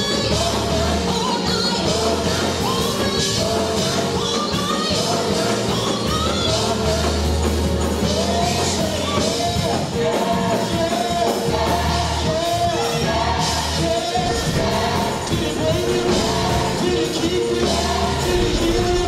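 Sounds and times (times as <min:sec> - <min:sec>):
gospel singing over a band: 0:00.0 - 0:19.0.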